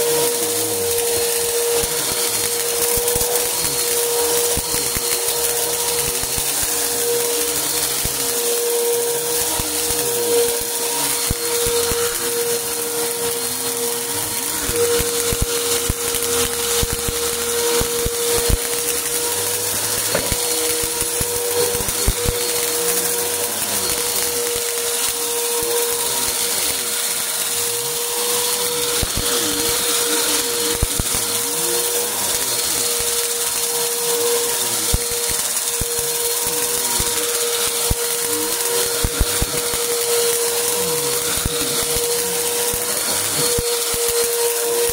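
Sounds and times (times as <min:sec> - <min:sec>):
debris rattling in vacuum: 0:00.0 - 0:44.9
vacuum cleaner motor whining: 0:00.0 - 0:44.9.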